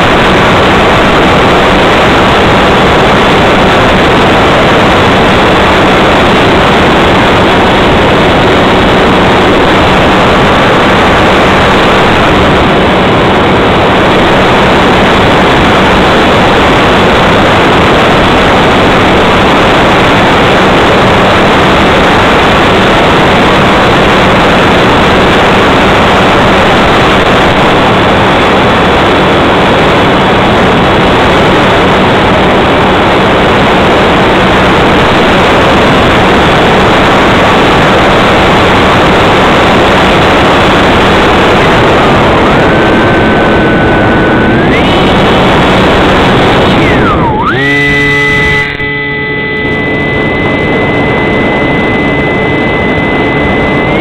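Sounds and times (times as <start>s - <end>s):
faint steady hum: 0.0s - 54.0s
model airplane motor and propeller: 0.0s - 54.0s
wind rushing over microphone: 0.0s - 54.0s.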